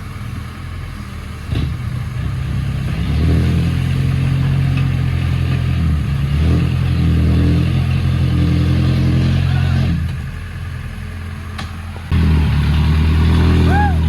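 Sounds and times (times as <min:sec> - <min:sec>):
heavy diesel engine under load: 0:00.0 - 0:14.0.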